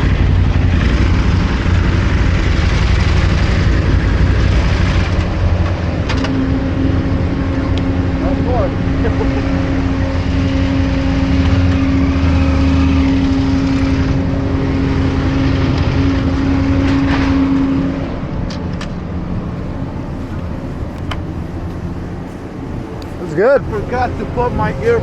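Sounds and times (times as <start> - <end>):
engine humming: 0.0 - 25.0
quiet rumble: 0.0 - 25.0.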